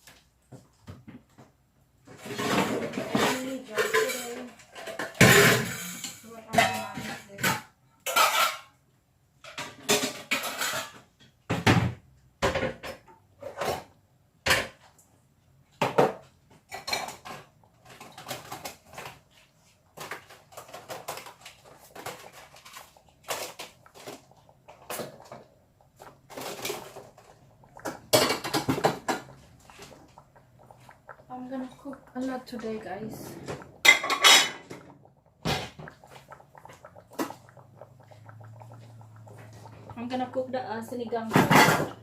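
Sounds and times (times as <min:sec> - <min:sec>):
pots and utensils clinking: 0:02.1 - 0:08.8, 0:09.4 - 0:11.3, 0:15.8 - 0:42.0.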